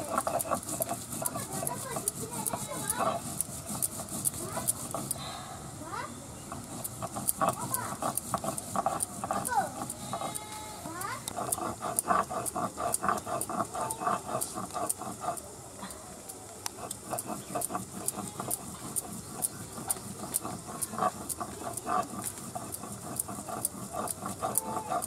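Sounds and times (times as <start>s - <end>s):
stone scraping on stone: 0.0s - 5.2s, 6.4s - 15.5s, 16.7s - 25.0s.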